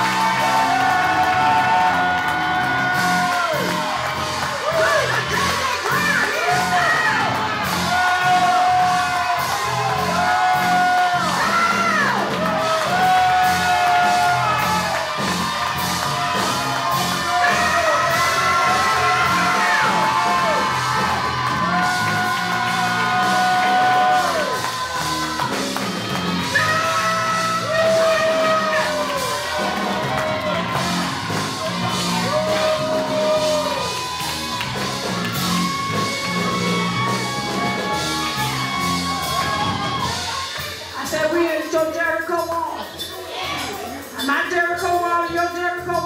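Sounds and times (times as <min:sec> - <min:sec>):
congregation singing and shouting: 0:00.0 - 0:41.1
gospel band playing: 0:00.0 - 0:46.0.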